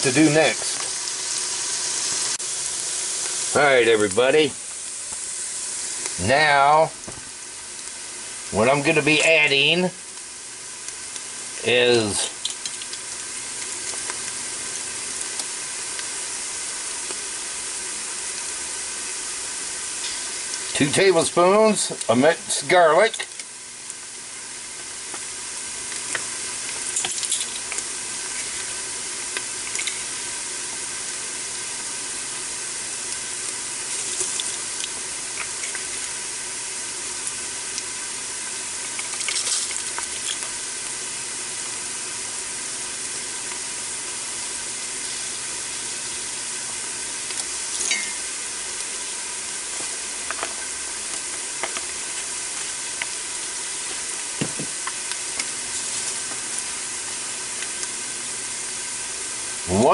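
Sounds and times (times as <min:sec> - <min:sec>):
onions sizzling in hot oil: 0:00.0 - 0:59.9.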